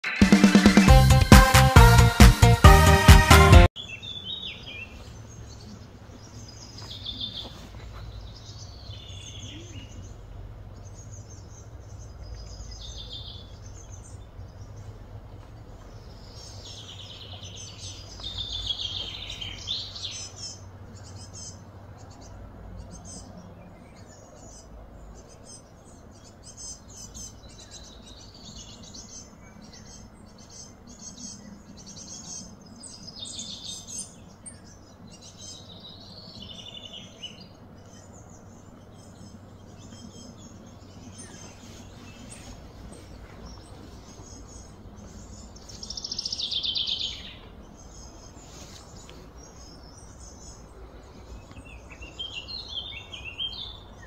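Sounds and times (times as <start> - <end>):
small birds chirping: 3.7 - 54.0
low steady hum: 4.1 - 54.0.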